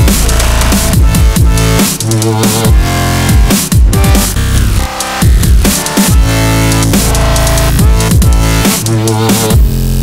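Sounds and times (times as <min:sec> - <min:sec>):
electronic music with sliding bass: 0:00.0 - 0:10.0.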